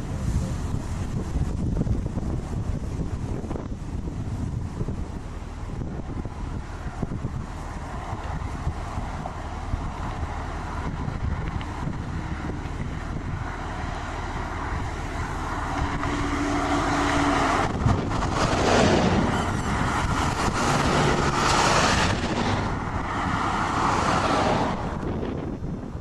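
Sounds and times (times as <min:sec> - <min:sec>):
rushing wind: 0:00.0 - 0:26.0
vehicle noise: 0:00.0 - 0:26.0.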